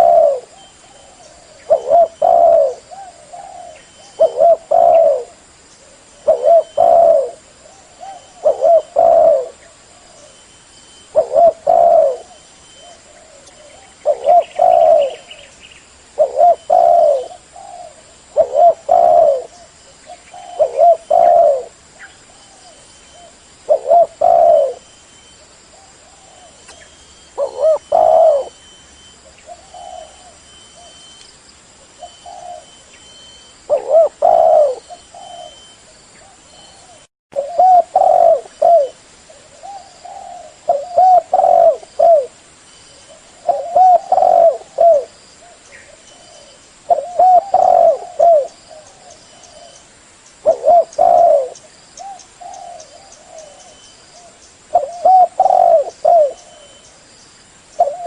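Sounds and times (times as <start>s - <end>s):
dove cooing: 0.0s - 15.5s, 16.2s - 31.2s, 31.8s - 42.4s, 43.0s - 49.8s, 50.4s - 56.9s, 57.7s - 58.0s.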